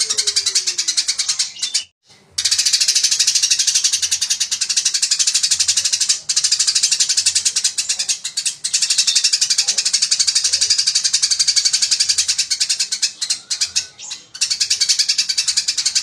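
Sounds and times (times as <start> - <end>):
sparrow chattering: 0.0 - 16.0.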